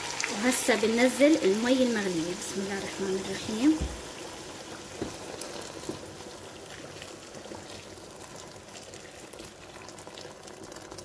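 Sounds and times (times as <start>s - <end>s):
water pouring into a pot: 0.0s - 11.0s.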